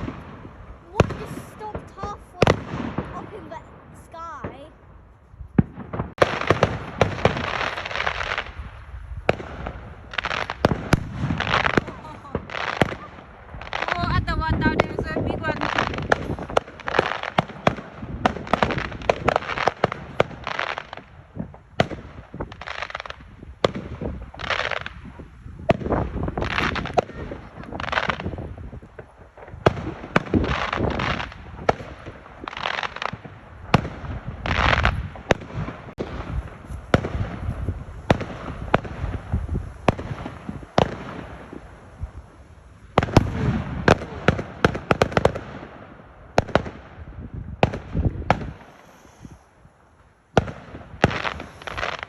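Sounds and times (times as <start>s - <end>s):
fireworks bangs: 0.0s - 52.0s
rapid fireworks pops: 0.0s - 52.0s.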